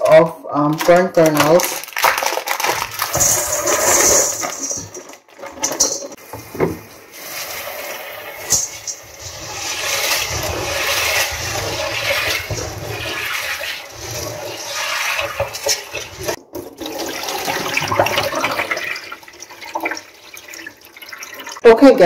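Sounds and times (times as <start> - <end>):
kernels rattling in water: 0.7 - 21.6.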